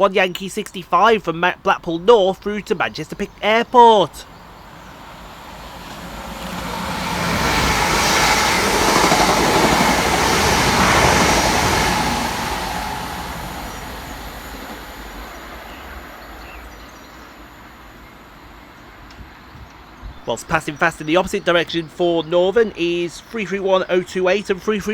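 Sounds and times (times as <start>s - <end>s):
electric train passing at speed: 0.0s - 24.9s.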